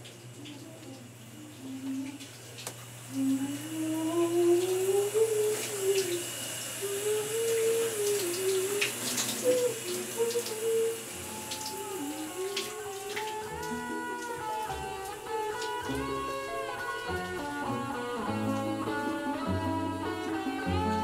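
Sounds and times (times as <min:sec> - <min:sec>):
shower spray hissing: 0:00.6 - 0:21.0
woman humming: 0:03.1 - 0:21.0.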